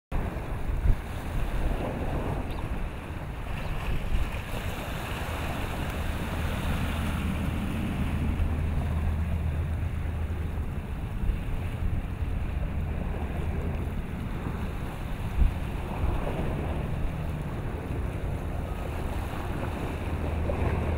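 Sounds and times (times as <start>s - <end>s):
waves washing: 0.1s - 20.9s
wind buffeting microphone: 0.1s - 20.9s.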